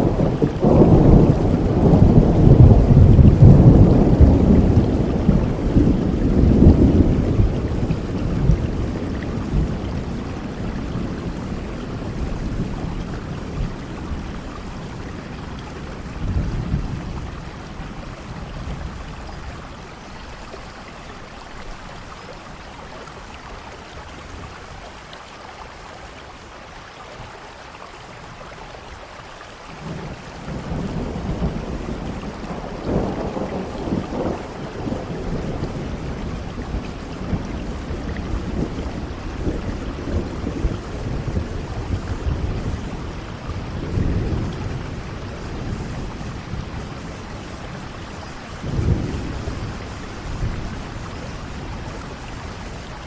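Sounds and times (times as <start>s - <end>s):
thunder rumble: 0.0s - 20.8s, 29.8s - 53.0s
rain hissing: 0.0s - 53.0s.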